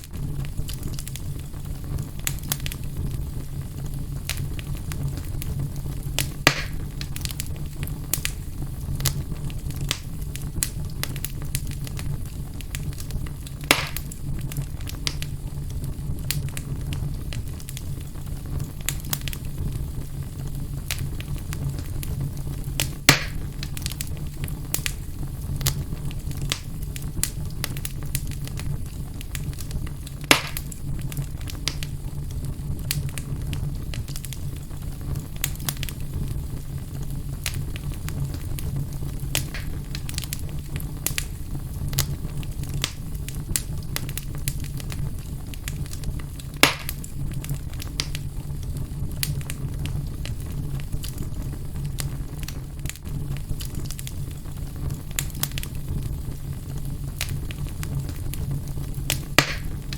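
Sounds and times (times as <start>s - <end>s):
loud fire pops: 0.0s - 59.9s
wood fire crackling: 0.0s - 59.9s.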